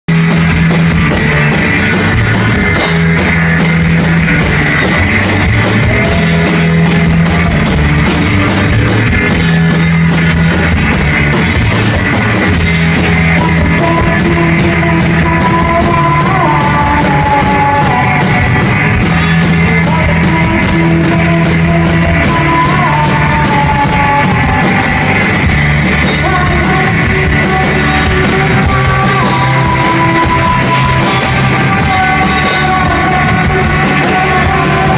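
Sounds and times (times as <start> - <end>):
bass guitar: 0.0 - 34.9
drum kit: 0.1 - 34.9
electric guitars: 0.1 - 34.9
person singing: 0.2 - 10.2, 10.9 - 34.9.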